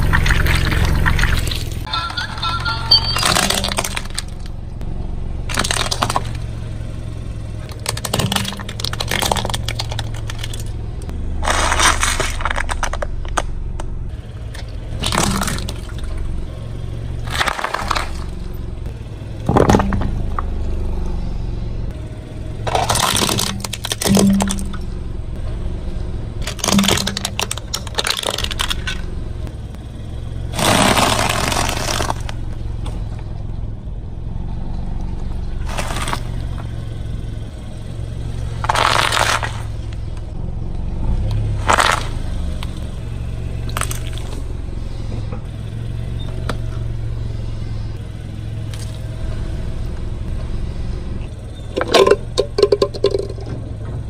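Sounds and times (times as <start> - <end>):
car tyre crushing crunchy objects: 0.0 - 1.9, 3.0 - 54.0
car low rumble: 0.0 - 54.0.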